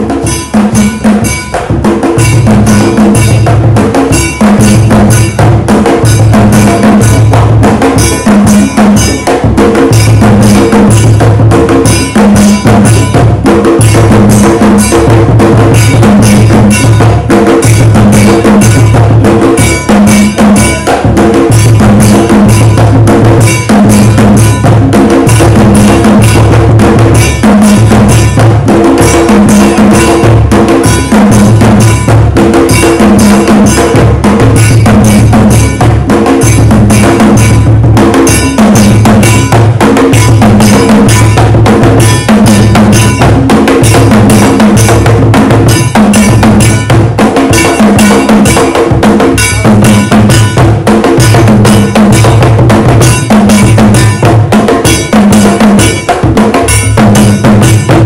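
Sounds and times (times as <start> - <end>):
struck metal bell pattern: 0.0 - 58.0.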